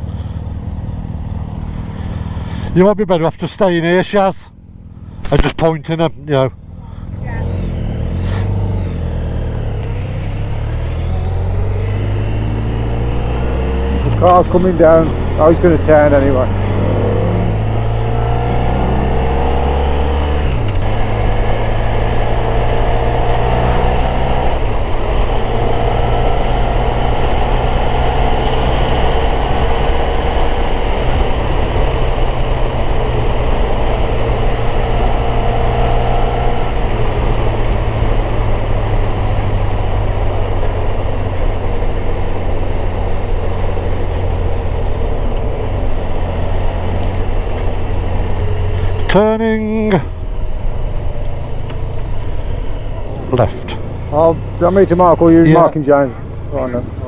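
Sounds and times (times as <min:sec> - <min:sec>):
motorcycle engine running: 0:00.0 - 0:02.7, 0:04.5 - 0:57.0.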